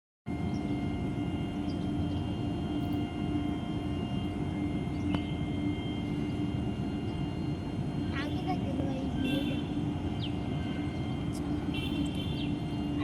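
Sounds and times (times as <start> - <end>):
motor droning: 0.3 - 13.0.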